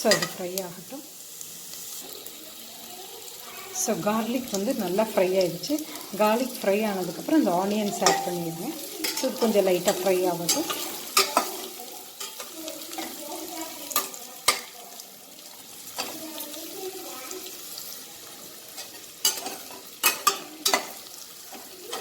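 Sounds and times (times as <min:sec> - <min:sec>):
onions frying in oil: 0:00.0 - 0:22.0.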